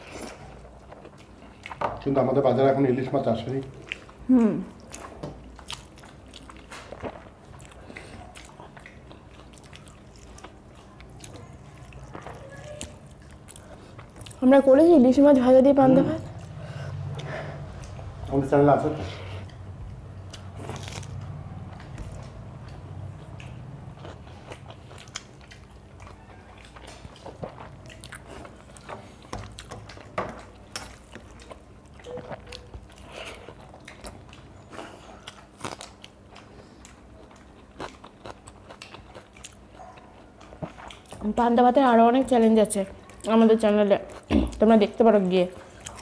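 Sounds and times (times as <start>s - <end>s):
chewing and crunching: 0.0s - 14.8s, 16.1s - 46.0s.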